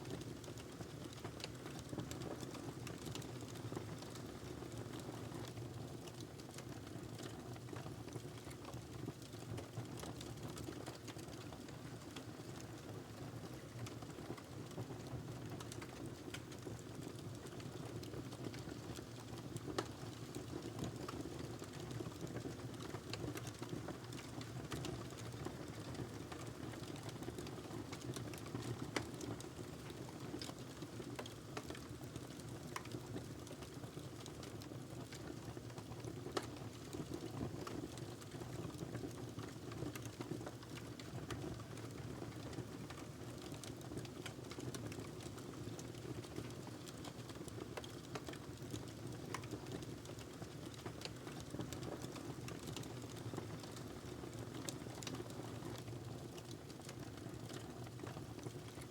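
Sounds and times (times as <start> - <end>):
wood fire crackling: 0.1 - 4.5, 13.2 - 58.9.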